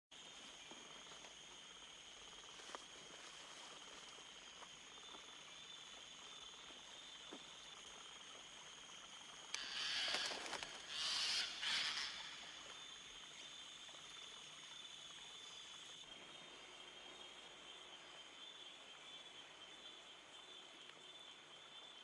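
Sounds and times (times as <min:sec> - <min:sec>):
high-pitched insect drone: 0:00.5 - 0:18.6.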